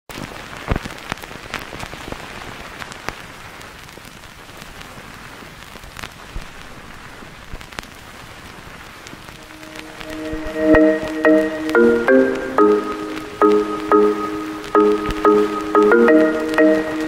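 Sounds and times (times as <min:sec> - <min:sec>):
rain hissing: 0:00.1 - 0:17.0.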